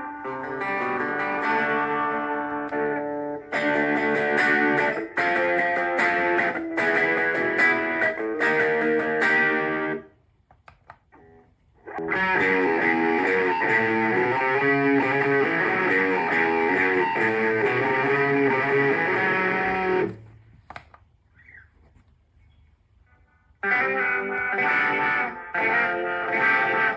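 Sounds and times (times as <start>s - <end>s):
electric guitar with effects: 0.0s - 10.1s, 11.1s - 20.3s, 23.6s - 26.9s.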